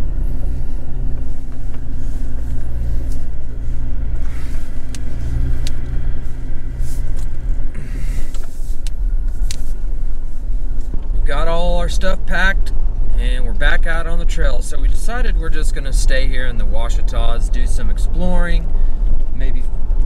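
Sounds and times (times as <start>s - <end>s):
engine and tyre rumble on gravel: 0.0s - 20.0s.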